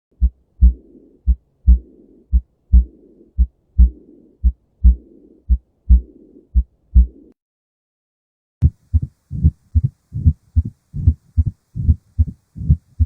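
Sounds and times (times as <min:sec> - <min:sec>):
heartbeat thumps: 0:00.1 - 0:07.3, 0:08.6 - 0:13.0
rushing heart murmur: 0:00.2 - 0:07.2, 0:08.6 - 0:13.0.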